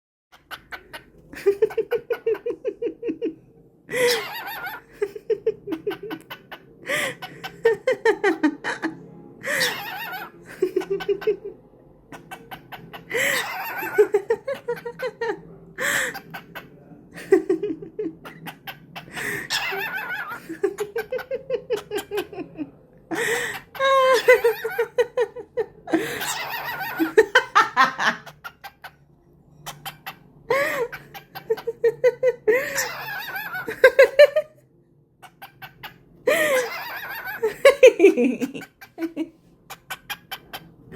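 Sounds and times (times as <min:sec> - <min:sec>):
cockatiel mimicking laughter: 0:03.9 - 0:11.5, 0:12.1 - 0:29.0, 0:29.6 - 0:34.4, 0:35.2 - 0:40.7.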